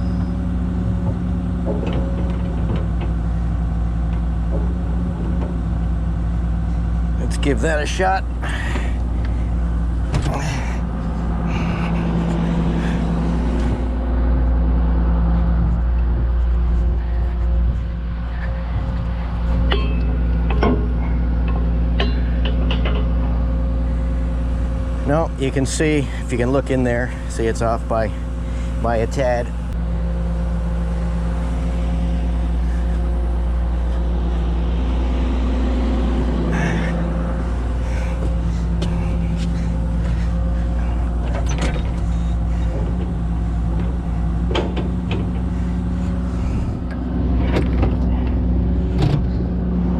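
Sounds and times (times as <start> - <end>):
excavator diesel engine idling: 0.0 - 49.9.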